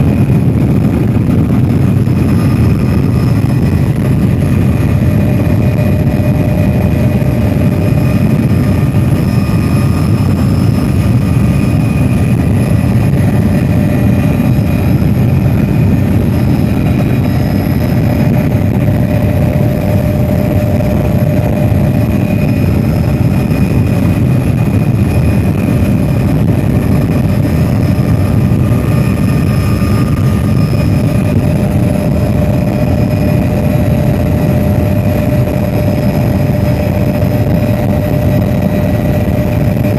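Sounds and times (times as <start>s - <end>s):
helicopter engine and rotor rumble: 0.0s - 39.9s
high-pitched whines: 0.0s - 39.9s.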